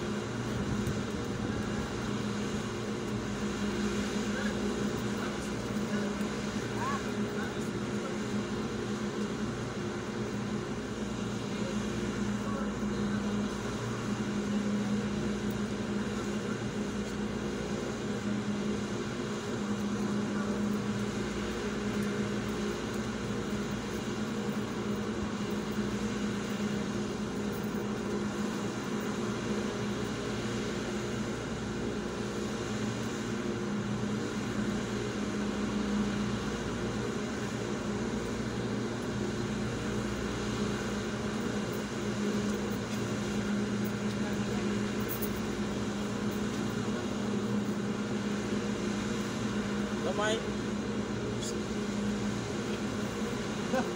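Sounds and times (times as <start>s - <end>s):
steady mechanical hum: 0.0s - 53.9s.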